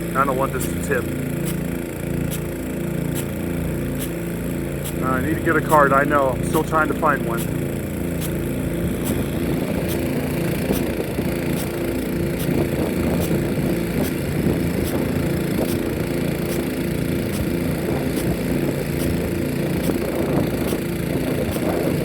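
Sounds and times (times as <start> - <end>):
steady engine drone: 0.0 - 22.0
sprinkler arm clacking: 0.2 - 22.0.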